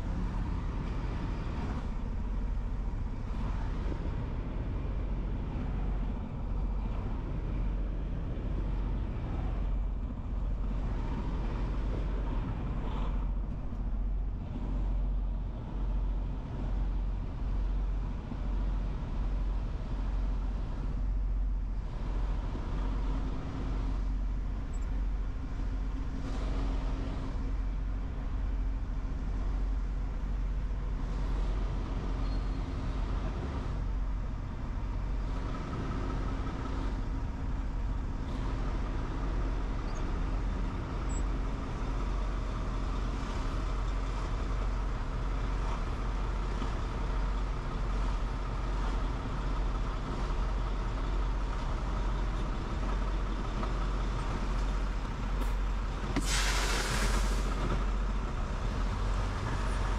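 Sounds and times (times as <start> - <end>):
heavy truck engine drone: 0.0 - 59.9
road noise: 0.0 - 59.9.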